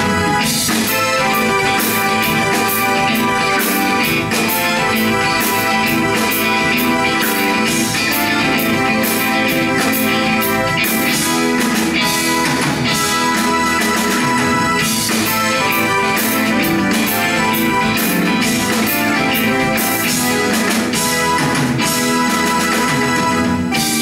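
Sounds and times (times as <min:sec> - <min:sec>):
drum beat with cymbals: 0:00.0 - 0:24.0
electric bass: 0:00.0 - 0:24.0
electric guitar: 0:00.0 - 0:24.0
synthesizer chords: 0:00.0 - 0:24.0.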